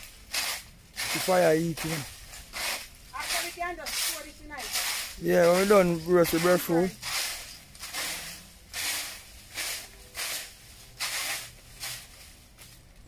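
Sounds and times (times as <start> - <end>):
rake scraping leaves: 0.0 - 13.0.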